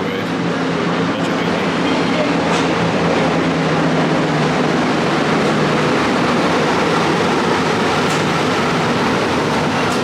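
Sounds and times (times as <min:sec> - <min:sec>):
train carriage rumbling and rattling: 0:00.0 - 0:10.0.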